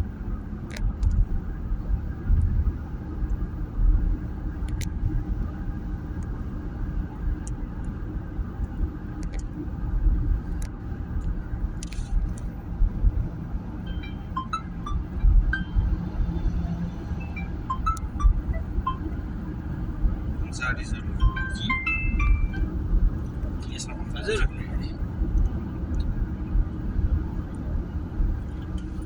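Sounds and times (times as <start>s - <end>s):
road rumble inside car: 0.0s - 29.0s.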